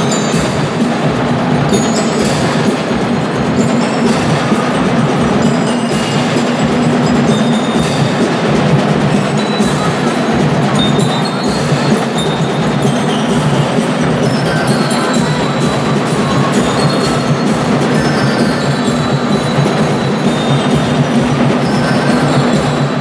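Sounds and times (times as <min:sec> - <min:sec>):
mallet percussion ringing: 0:00.0 - 0:23.0
marching band playing: 0:00.0 - 0:23.0.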